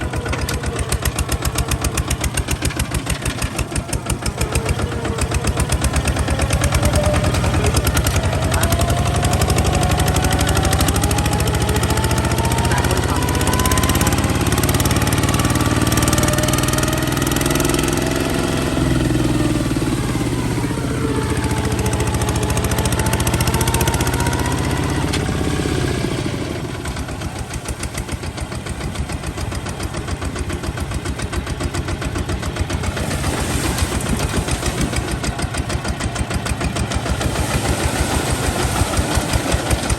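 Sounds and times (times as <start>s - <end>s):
diesel tractor engine knocking: 0.0s - 39.9s.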